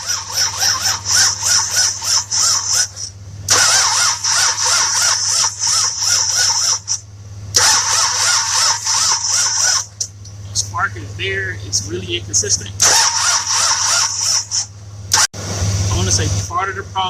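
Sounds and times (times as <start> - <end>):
car engine cranking on starter: 0.0 - 10.7, 11.7 - 16.4
starter motor whine: 0.0 - 17.0.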